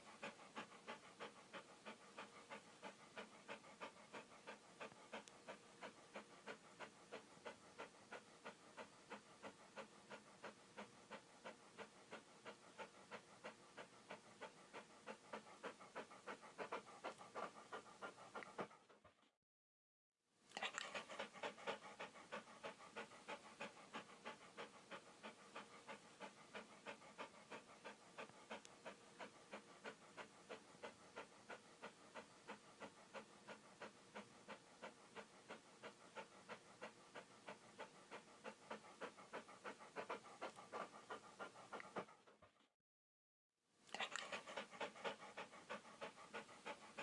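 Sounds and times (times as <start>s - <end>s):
dog panting: 0.0s - 19.4s, 20.5s - 42.7s, 43.9s - 47.0s.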